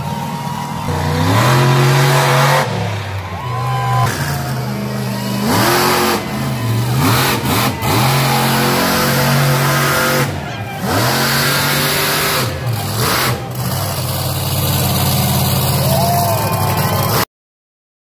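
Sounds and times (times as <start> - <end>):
truck engine revving: 0.0 - 17.2.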